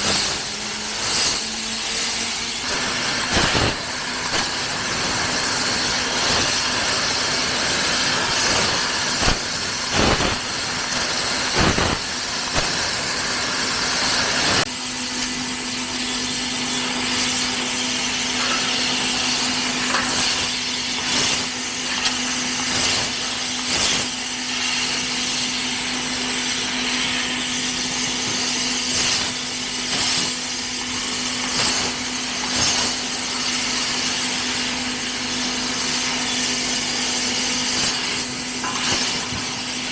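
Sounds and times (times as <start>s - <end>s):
laser cutting machine hiss and hum: 0.0s - 39.9s.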